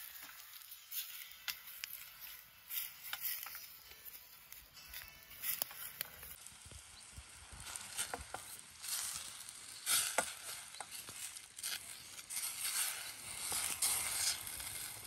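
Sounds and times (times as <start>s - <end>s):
shrimp sizzling in a pot: 0.0s - 15.0s.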